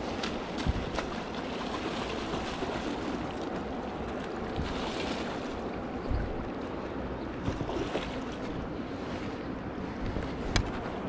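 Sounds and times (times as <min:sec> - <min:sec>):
wind buffeting microphone: 0:00.0 - 0:03.8, 0:04.4 - 0:11.0.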